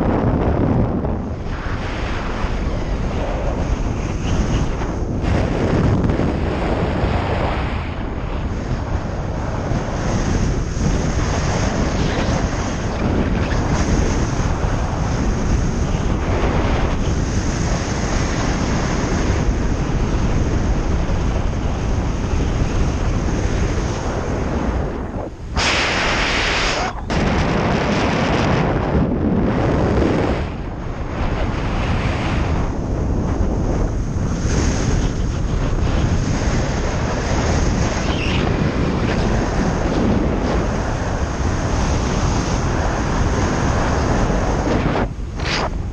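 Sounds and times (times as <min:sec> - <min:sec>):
strong wind roaring on microphone: 0:00.0 - 0:45.9.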